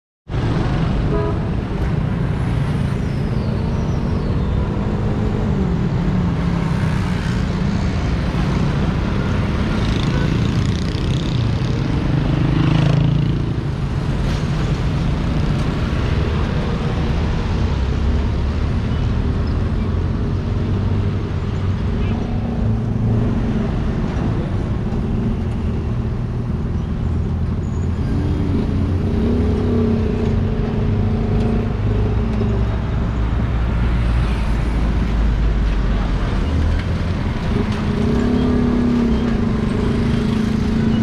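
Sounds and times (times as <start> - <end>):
road traffic passing: 0.3 - 41.0.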